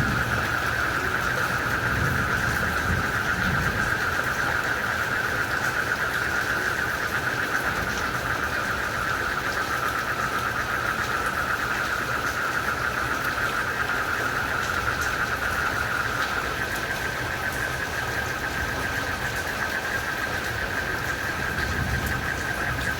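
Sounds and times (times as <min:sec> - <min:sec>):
frogs and crickets calling: 0:00.0 - 0:22.9
rain falling: 0:00.0 - 0:22.9.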